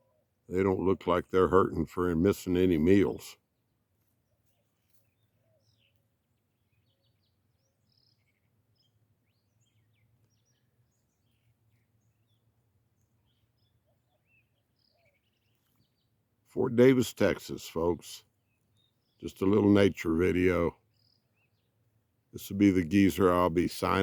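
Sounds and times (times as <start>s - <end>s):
small birds chirping: 2.2s - 24.0s.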